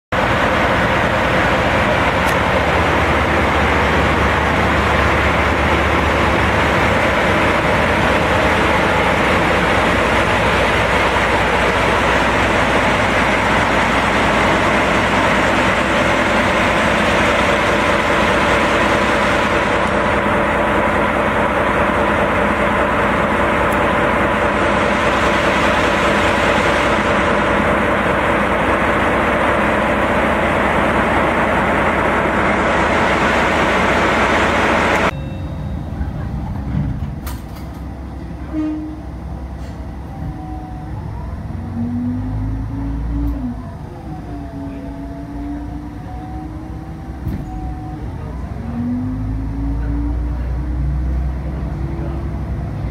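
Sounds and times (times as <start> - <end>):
diesel locomotive idling: 0.1 - 52.9.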